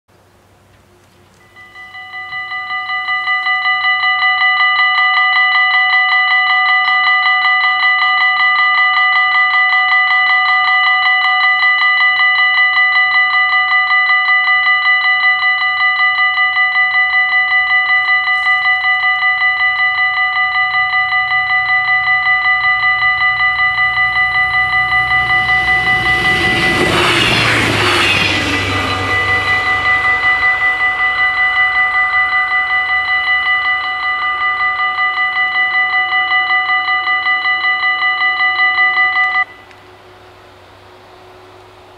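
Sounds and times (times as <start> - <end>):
railcar passing: 0.2 - 41.9
level crossing bells ringing: 1.4 - 39.7.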